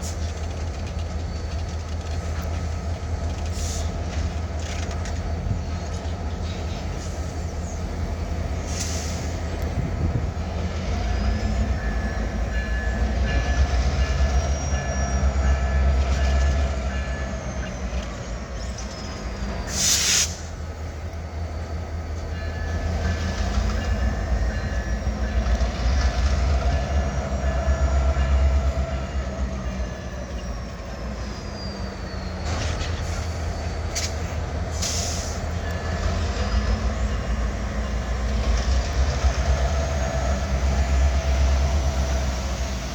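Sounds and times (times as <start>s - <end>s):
diesel locomotive engine rumble: 0.0s - 42.9s.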